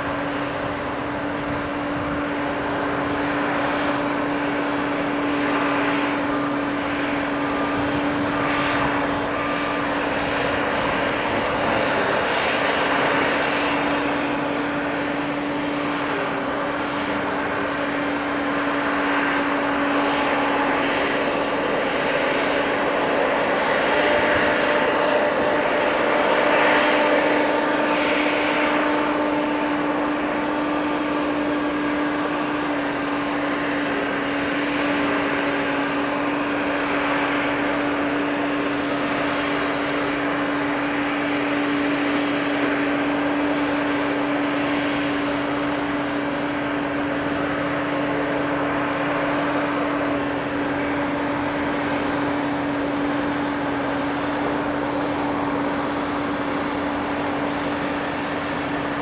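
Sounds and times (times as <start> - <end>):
construction site rumble: 0.0 - 59.0
heavy machinery engine droning: 0.0 - 59.0.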